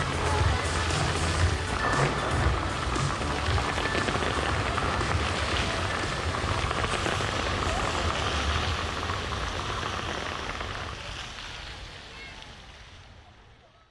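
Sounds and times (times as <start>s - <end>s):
fountain water splashing into basin: 0.0s - 13.4s.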